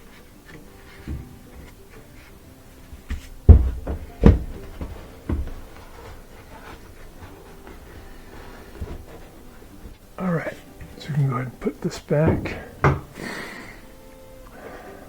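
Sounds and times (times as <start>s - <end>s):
dryer cabinet parts knocking: 0.8s - 13.3s.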